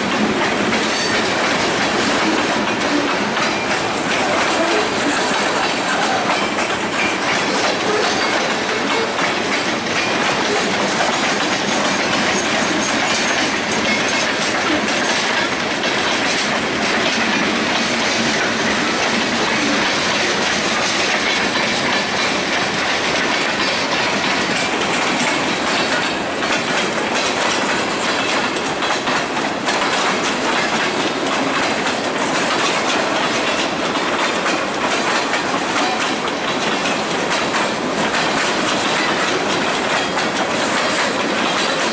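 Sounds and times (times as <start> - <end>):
train wheels clattering on rails: 0.0 - 41.9.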